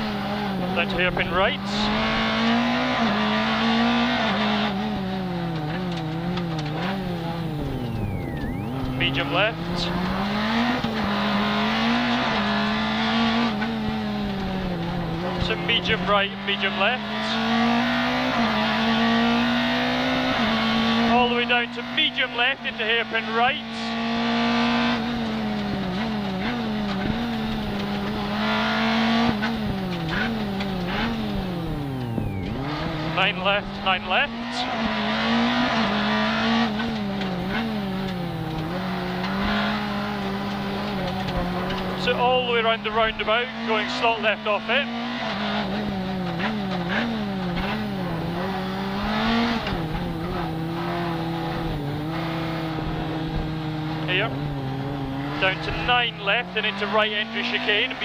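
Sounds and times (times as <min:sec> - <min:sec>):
rally car engine from inside cabin: 0:00.0 - 0:58.0.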